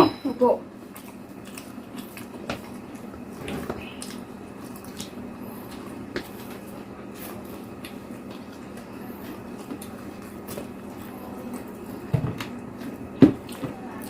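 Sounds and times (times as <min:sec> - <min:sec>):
wet chewing and mouth clicks: 0:00.8 - 0:14.0.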